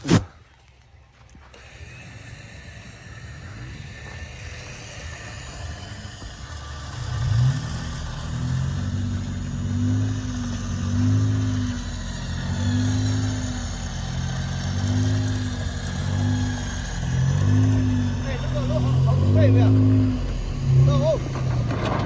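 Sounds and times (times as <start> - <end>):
truck engine revving: 0.0 - 0.3, 1.6 - 22.0.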